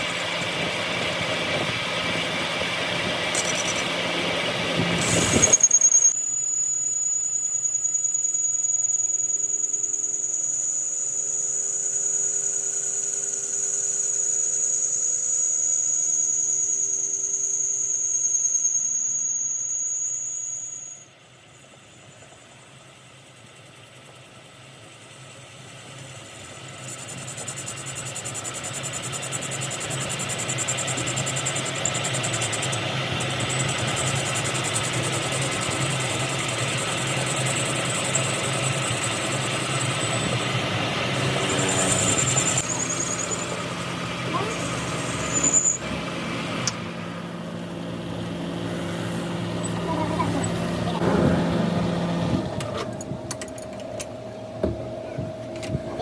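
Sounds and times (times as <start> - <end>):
high-pitched mechanical whine: 0.0 - 56.0
low machine engine sound: 0.0 - 56.0.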